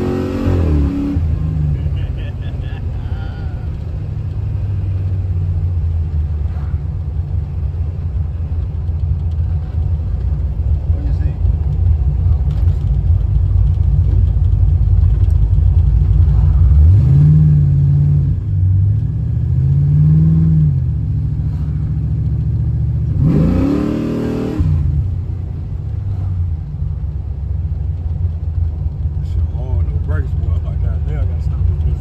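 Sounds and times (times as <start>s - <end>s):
car engine droning in cabin: 0.0s - 32.0s.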